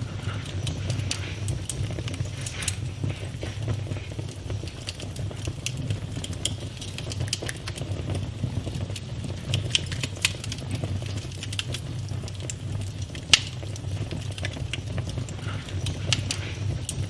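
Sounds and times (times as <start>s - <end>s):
campfire low rumble: 0.0s - 17.0s
wood crackling and popping: 0.0s - 17.0s.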